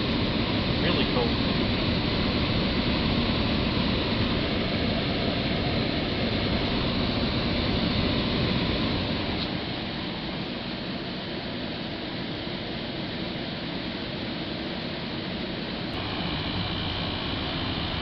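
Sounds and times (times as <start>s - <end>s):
window air conditioner running: 0.0s - 18.0s.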